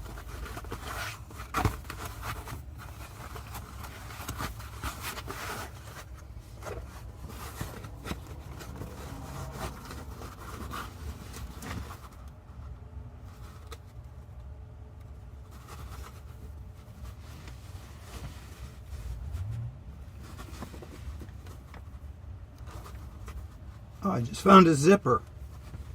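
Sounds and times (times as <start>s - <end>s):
rustling upholstery and foam: 0.0s - 14.4s, 15.0s - 25.9s
low steady rumble: 0.0s - 25.9s.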